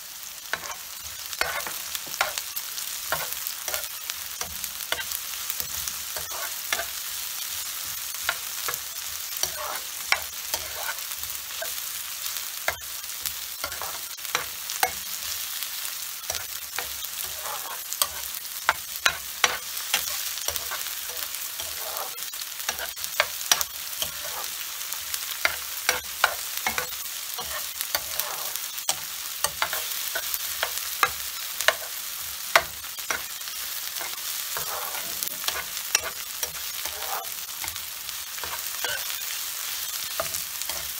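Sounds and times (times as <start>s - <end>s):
onions sizzling in oil: 0.0s - 40.9s
spatula scraping a pan: 0.5s - 15.4s, 16.2s - 40.9s.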